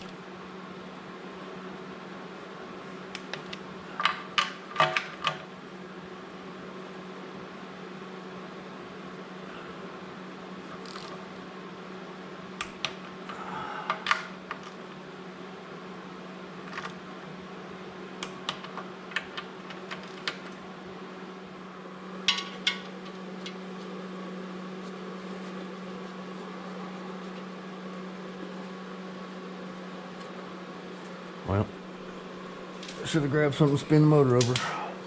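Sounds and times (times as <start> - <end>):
shop equipment hum: 0.0 - 35.0.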